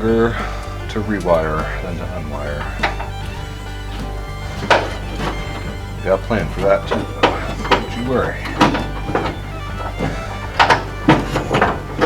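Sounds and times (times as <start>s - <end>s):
low bass tone: 0.0s - 12.0s.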